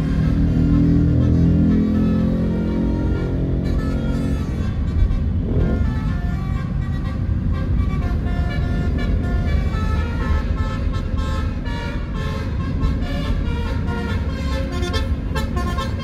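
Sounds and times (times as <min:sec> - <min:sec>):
bus musical horn playing a tune: 0:00.0 - 0:16.0
road and engine rumble: 0:00.0 - 0:16.0.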